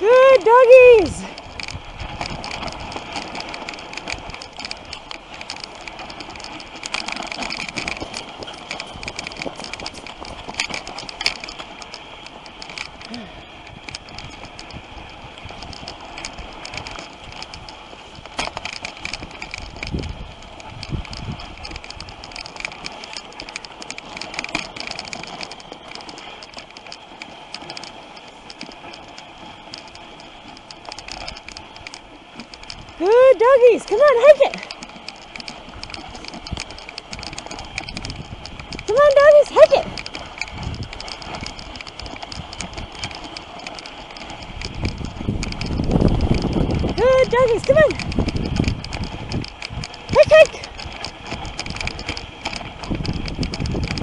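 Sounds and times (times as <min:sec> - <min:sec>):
sled bumping knocks: 0:00.0 - 0:54.0
sled runners hissing on snow: 0:00.0 - 0:54.0.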